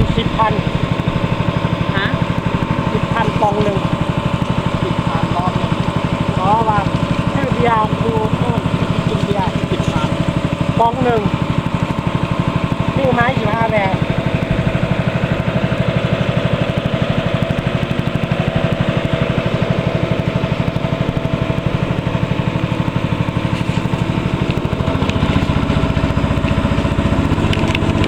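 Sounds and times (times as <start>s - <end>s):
small boat engine putter: 0.0s - 28.0s.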